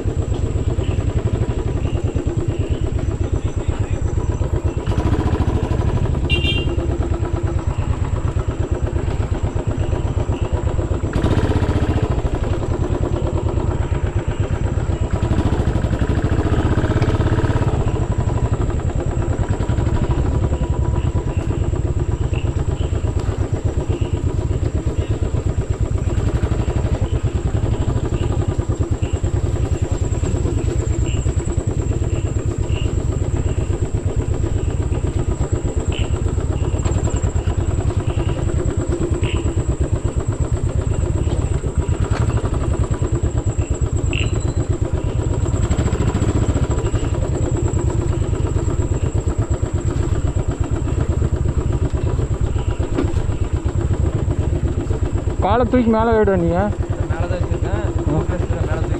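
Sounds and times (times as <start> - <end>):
exhaust pulsing thump: 0.0 - 58.9
motorcycle engine running: 0.0 - 58.9.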